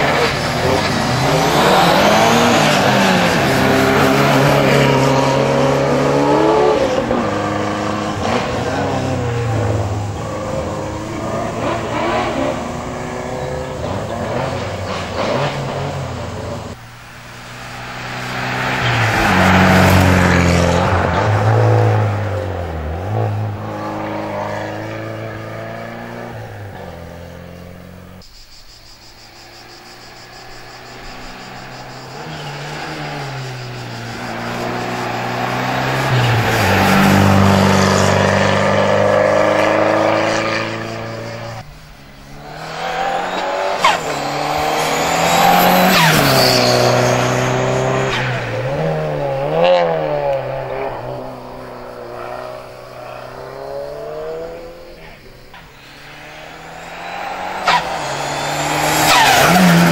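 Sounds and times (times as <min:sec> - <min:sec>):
race car engine revving: 0:00.0 - 0:28.2, 0:29.4 - 0:59.9.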